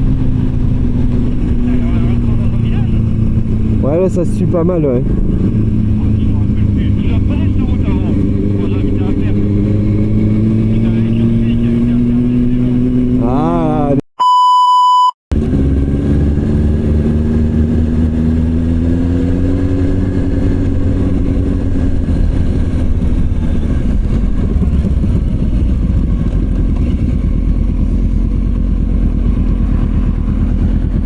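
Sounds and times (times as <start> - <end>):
motorcycle engine running: 0.0 - 13.6, 15.3 - 31.0.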